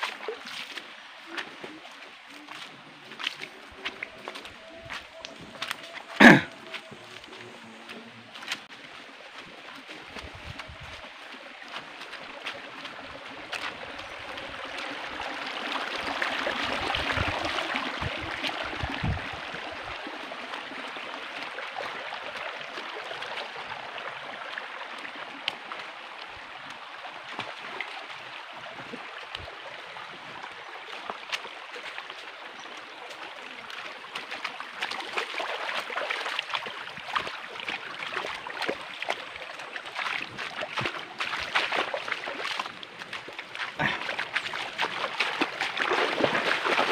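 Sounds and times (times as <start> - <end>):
footsteps through brush and stones: 0.0 - 19.4, 22.0 - 46.9
stream running over rocks: 0.0 - 46.9.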